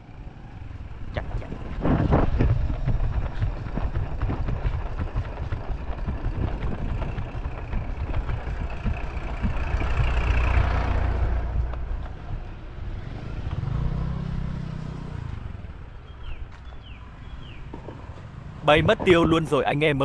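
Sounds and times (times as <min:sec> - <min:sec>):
vehicle engine running: 0:00.0 - 0:19.6
low engine hum: 0:00.0 - 0:20.0.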